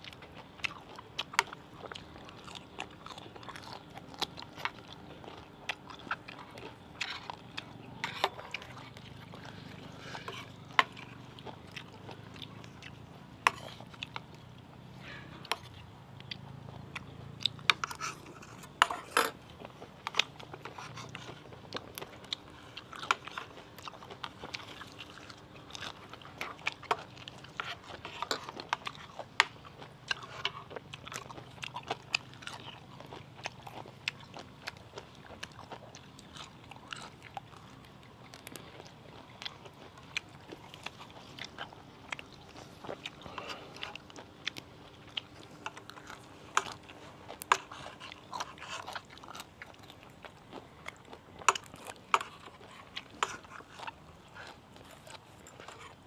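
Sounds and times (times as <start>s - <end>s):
person crunching and chewing: 0.0s - 56.0s.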